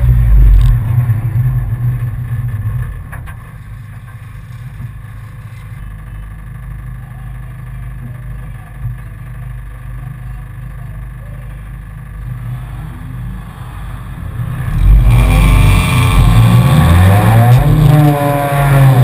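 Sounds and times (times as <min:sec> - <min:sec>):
race car engine idling: 0:00.0 - 0:19.0.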